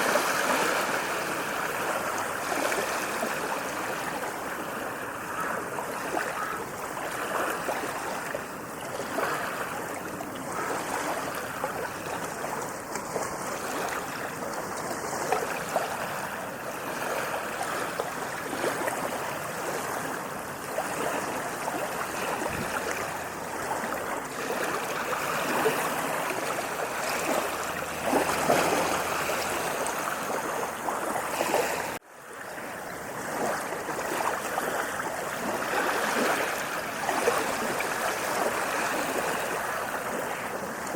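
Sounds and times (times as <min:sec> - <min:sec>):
waves washing on sandy beach: 0:00.0 - 0:40.9.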